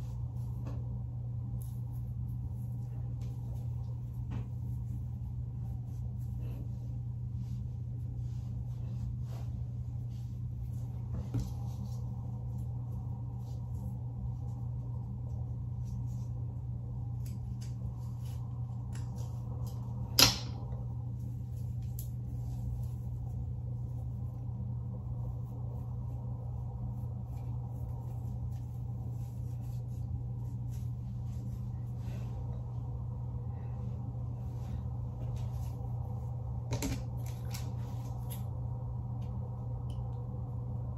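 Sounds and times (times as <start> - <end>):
hair rustling: 0.0 - 39.4
steady low hum: 0.0 - 40.9.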